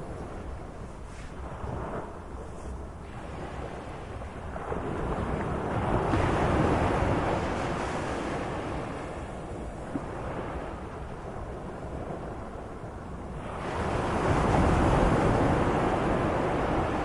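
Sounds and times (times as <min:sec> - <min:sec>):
sea waves washing: 0:00.0 - 0:17.0.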